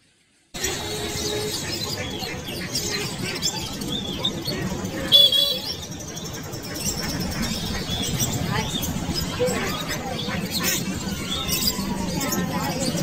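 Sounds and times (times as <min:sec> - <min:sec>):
steady background noise: 0:00.1 - 0:13.0
small birds chirping: 0:00.6 - 0:13.0.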